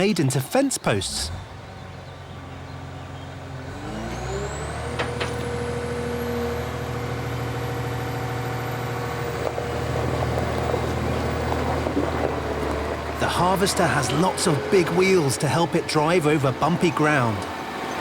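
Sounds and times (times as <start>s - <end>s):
diesel engine revving: 0.8s - 18.0s.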